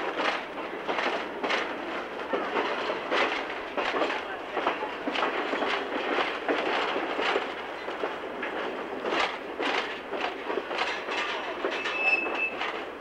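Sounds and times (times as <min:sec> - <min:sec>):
railroad car rumbling: 0:00.0 - 0:13.0
wheels clacking over rail joints: 0:00.0 - 0:13.0.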